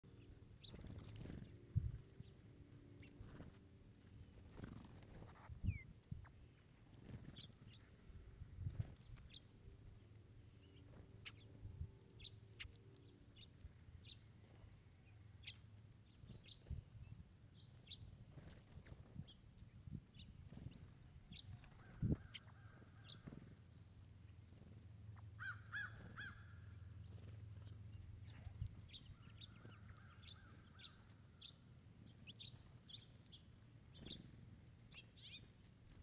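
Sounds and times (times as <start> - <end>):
faint songbird calls: 0.1 - 36.0.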